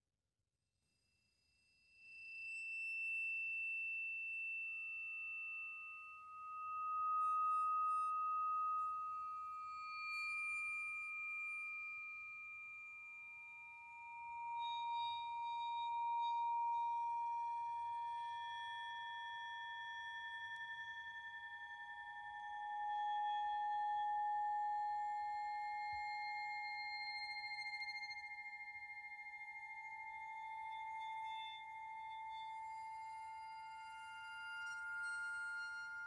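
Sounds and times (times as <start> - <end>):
tuning forks ringing pure tones: 1.7 - 36.0.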